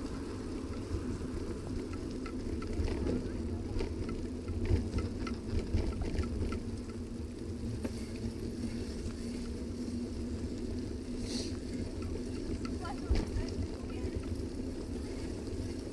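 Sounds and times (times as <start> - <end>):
bicycle tyre noise on wet path: 0.0 - 15.9
light rattling ticks: 0.0 - 15.9.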